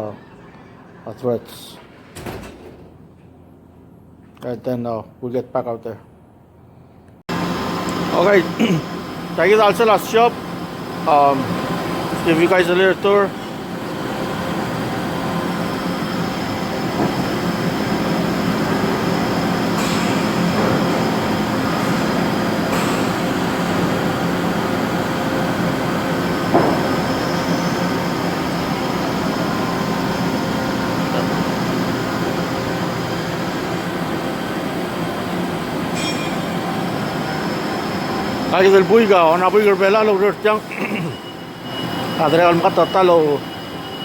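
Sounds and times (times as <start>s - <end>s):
machines droning: 6.3s - 44.0s.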